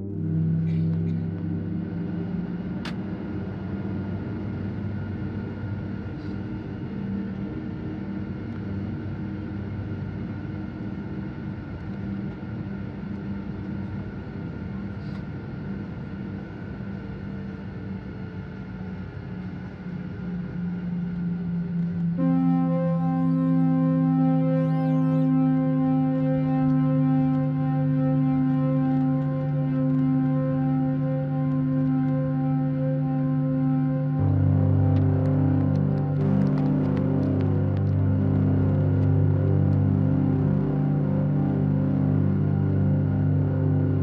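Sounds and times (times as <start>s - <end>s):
jet engine hum in cabin: 0.0s - 44.0s
music: 0.0s - 44.0s.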